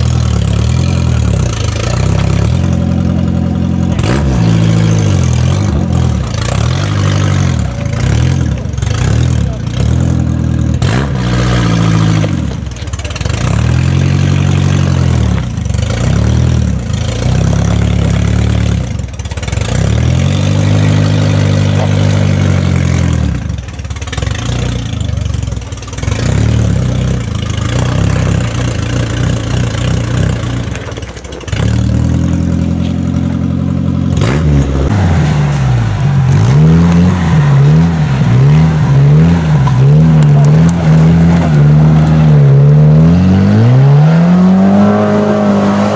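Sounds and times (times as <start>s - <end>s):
off-road vehicle engine revving: 0.0s - 45.9s.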